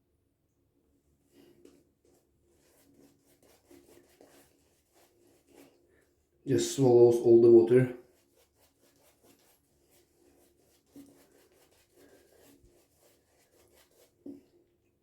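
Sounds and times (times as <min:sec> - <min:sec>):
shaving brush rubbing lather: 0:01.4 - 0:14.5.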